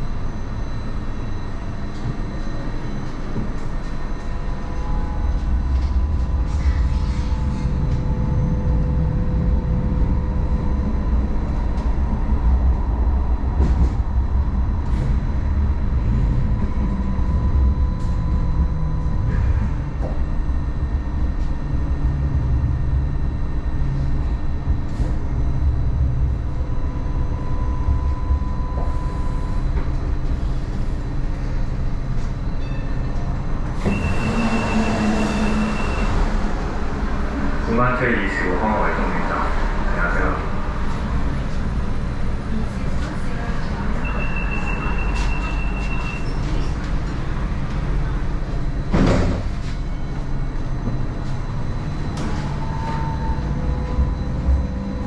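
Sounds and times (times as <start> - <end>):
thin steady whine: 0.0 - 55.0
train rumbling on rails: 0.0 - 55.0.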